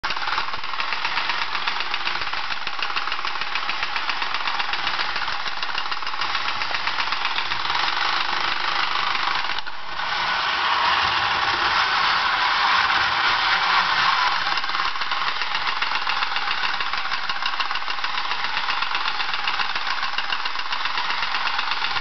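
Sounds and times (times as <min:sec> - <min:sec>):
toy robot mechanical clatter: 0:00.0 - 0:22.0.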